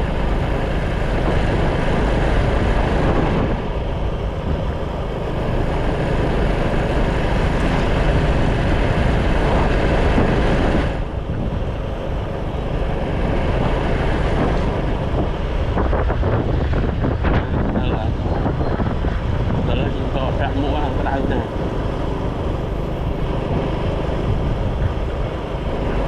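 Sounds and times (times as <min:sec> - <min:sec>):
motorcycle engine: 0:00.0 - 0:26.0
wind rushing over microphone: 0:00.0 - 0:26.0.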